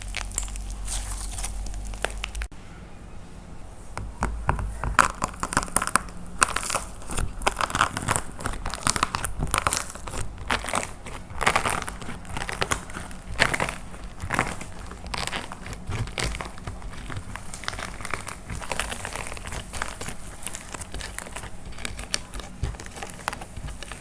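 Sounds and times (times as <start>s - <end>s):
dry clay crunching and crackling: 0.0s - 2.5s, 4.0s - 24.0s.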